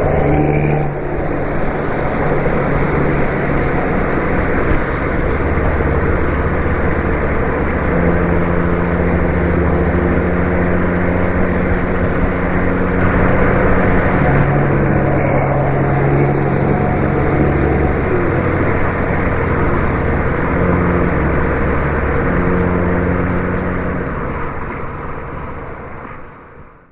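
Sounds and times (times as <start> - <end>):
vehicle engine drone: 0.0 - 26.9.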